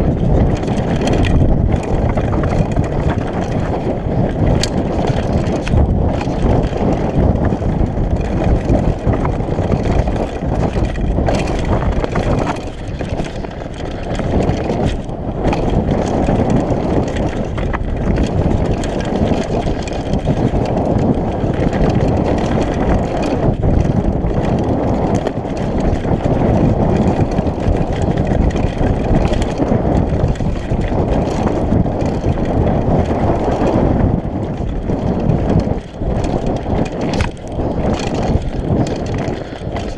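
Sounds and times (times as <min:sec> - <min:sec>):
bike clicks and rattles: 0:00.0 - 0:39.9
wind on microphone: 0:00.0 - 0:39.9.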